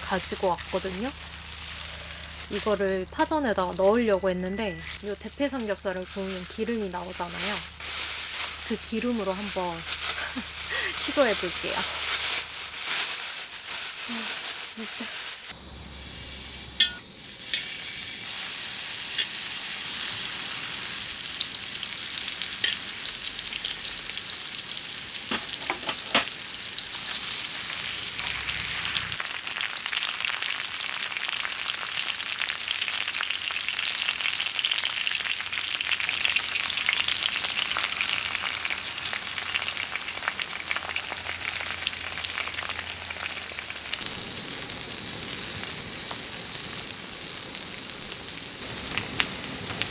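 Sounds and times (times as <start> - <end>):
pork sizzling in a hot pan: 0.0 - 49.9.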